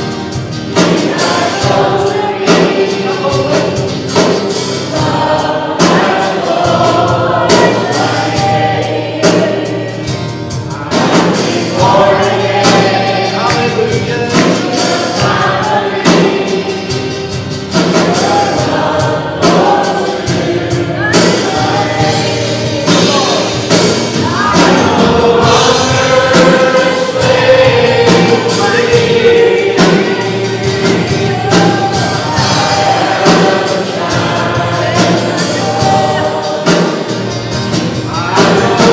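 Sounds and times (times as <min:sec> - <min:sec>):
group singing gospel song: 0:00.0 - 0:38.9
instrumental accompaniment: 0:00.0 - 0:38.9.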